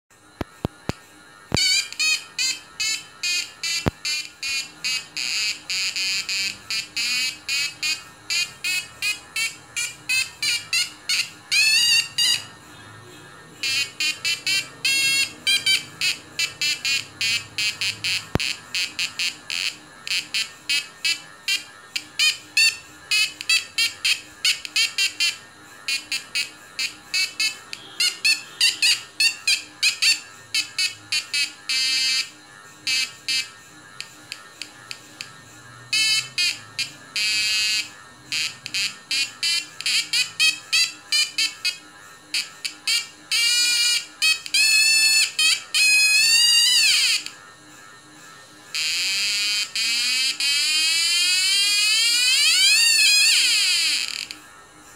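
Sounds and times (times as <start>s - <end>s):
oscillator chirping through speaker: 0.1s - 54.9s.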